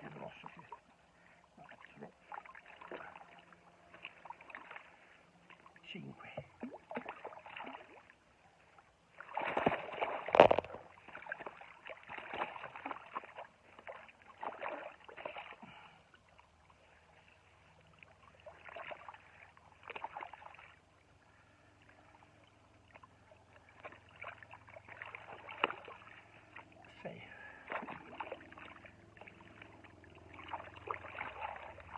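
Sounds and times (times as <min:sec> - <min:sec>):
water splashing and sloshing: 0:00.0 - 0:31.9.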